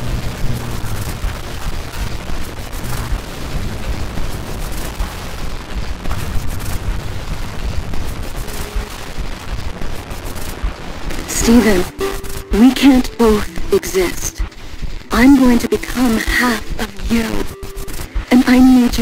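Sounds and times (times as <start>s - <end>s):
harsh crackling static: 0.0s - 19.0s
steady low rumble: 0.0s - 19.0s.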